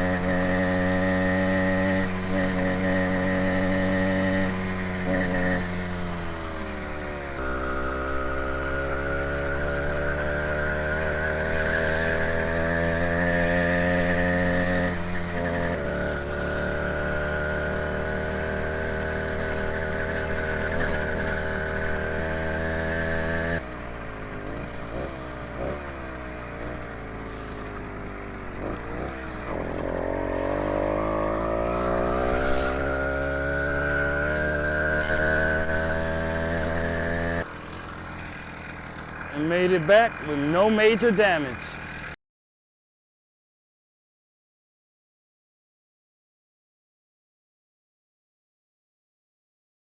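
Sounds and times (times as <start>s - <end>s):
motorized bicycle engine running: 0.0s - 42.2s.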